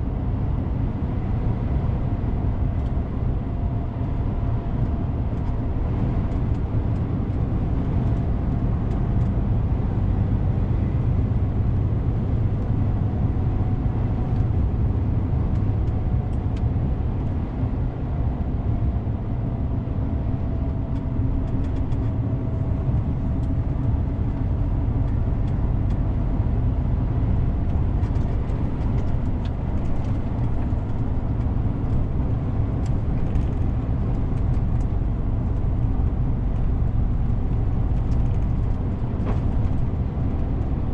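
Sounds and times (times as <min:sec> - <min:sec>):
truck engine and road drone: 0:00.0 - 0:40.9.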